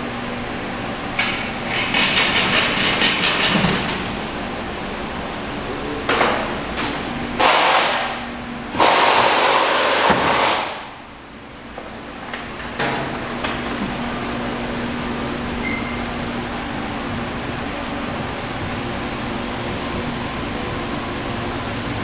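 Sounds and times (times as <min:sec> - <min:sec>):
steady low hum: 0:00.0 - 0:08.9, 0:10.7 - 0:22.0.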